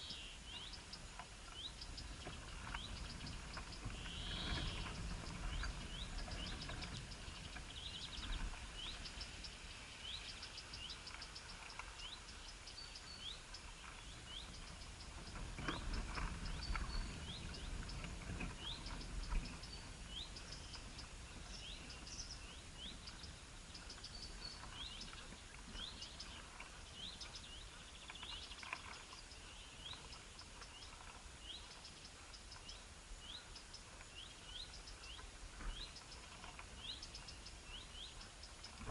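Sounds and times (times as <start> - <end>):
birds chirping: 0.0 - 38.9
outdoor background noise: 0.0 - 38.9.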